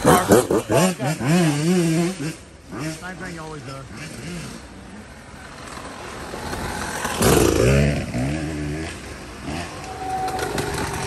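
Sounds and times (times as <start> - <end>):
dirt bike engine passing: 0.0 - 11.0.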